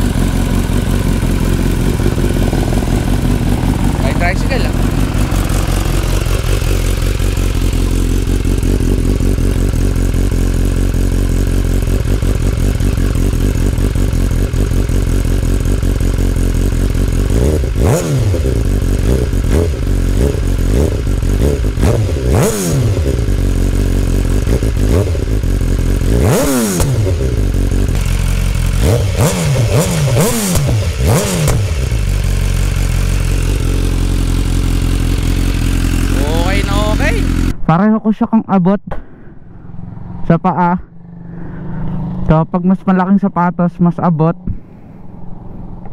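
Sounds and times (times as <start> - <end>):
motorcycle engine revving: 0.0 - 37.6, 39.5 - 42.9.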